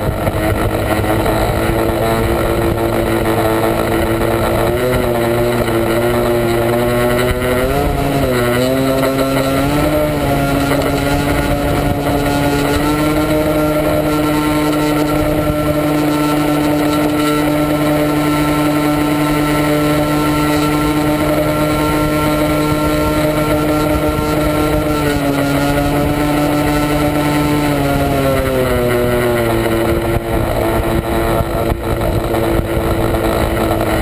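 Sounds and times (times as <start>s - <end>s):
model airplane motor running: 0.0s - 34.0s.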